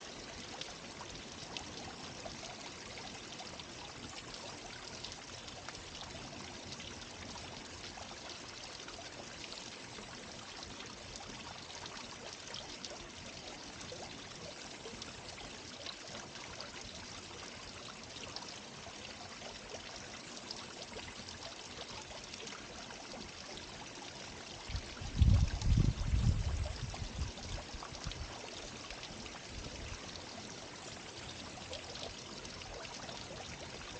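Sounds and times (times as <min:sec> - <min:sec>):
fountain water splashing: 0:00.0 - 0:33.9.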